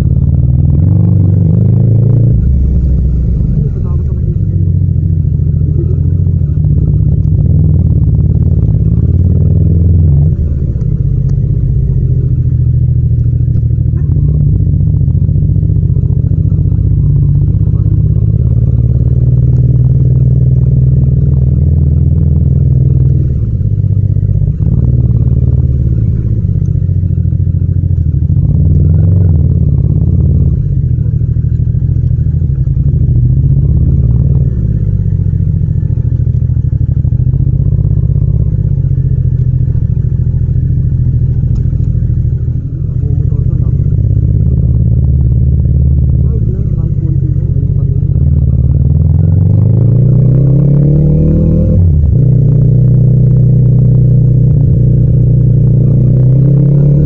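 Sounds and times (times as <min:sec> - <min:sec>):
motorcycle engine droning: 0:00.0 - 0:57.0.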